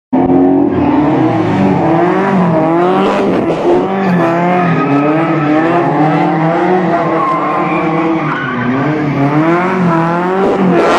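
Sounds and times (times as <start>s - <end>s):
car engine revving hard: 0.2s - 10.9s
tire squeal: 0.6s - 10.9s.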